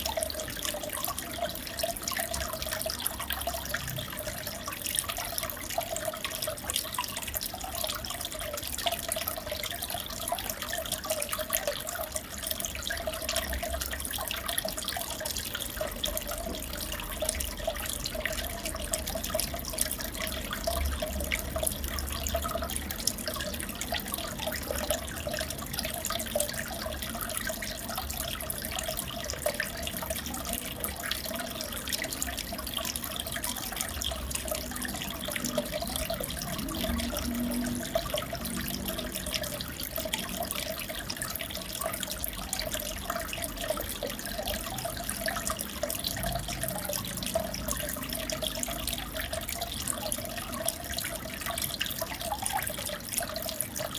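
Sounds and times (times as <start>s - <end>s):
aquarium water trickling and bubbling: 0.0s - 53.9s.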